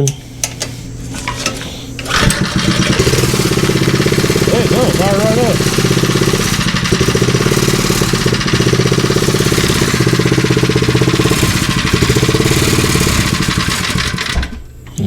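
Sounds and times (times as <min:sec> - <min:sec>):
small engine running: 0:01.4 - 0:14.6.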